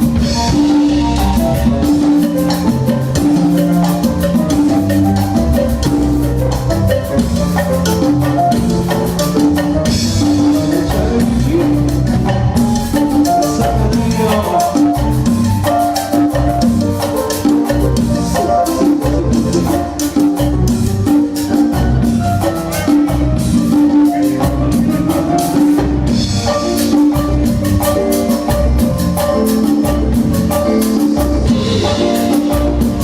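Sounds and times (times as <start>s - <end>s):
drums and percussion: 0.0s - 33.0s
live band playing latin dance music: 0.0s - 33.0s
repeating bass line: 0.0s - 33.0s.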